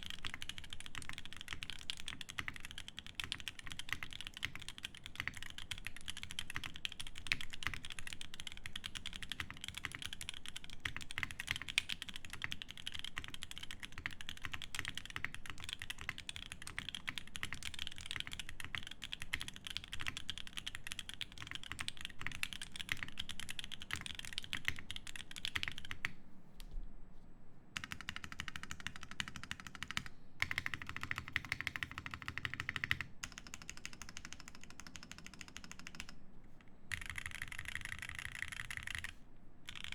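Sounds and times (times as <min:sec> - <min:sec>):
fast mechanical keyboard typing: 0:00.0 - 0:26.1, 0:27.8 - 0:36.2, 0:36.9 - 0:39.9.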